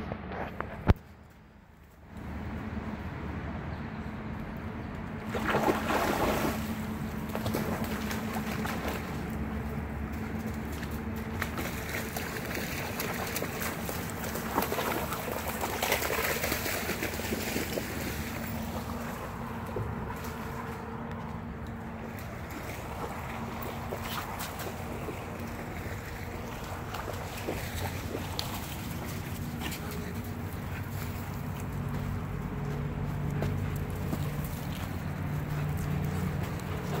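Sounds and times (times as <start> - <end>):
creek water running: 5.2 - 37.0
dogs splashing through water: 5.2 - 37.0.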